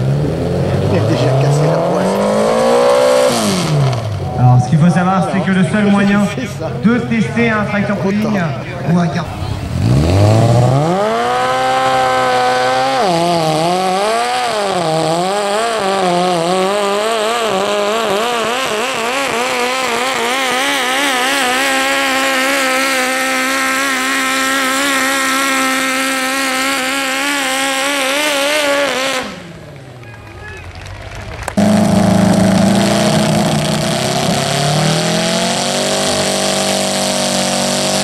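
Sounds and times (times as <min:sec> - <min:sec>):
tractor engine at full throttle: 0:00.0 - 0:38.0.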